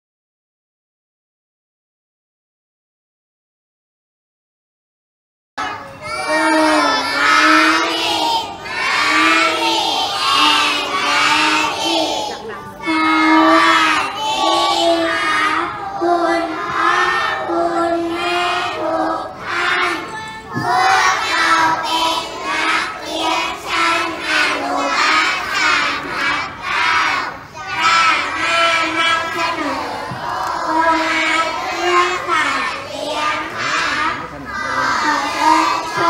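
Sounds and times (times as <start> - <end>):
children singing in unison: 5.6 - 36.0.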